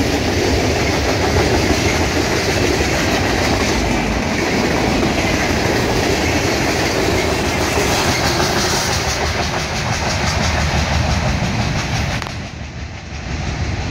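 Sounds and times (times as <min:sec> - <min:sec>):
train wheels clattering on rail joints: 0:00.0 - 0:13.9.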